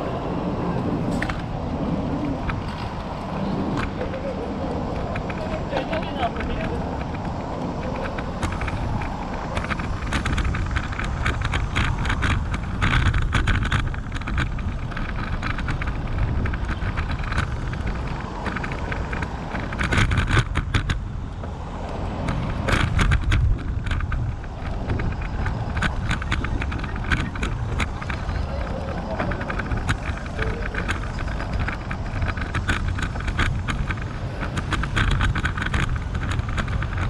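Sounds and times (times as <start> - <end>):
wind buffeting microphone: 0.0 - 37.0
sharp rattling clicks: 4.9 - 21.0, 21.8 - 37.0.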